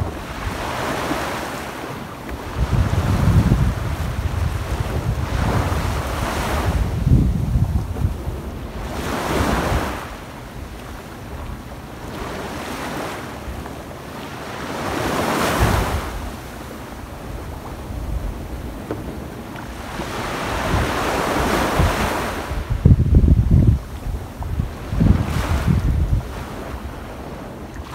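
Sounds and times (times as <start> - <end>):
waves breaking on sand beach: 0.0 - 27.9.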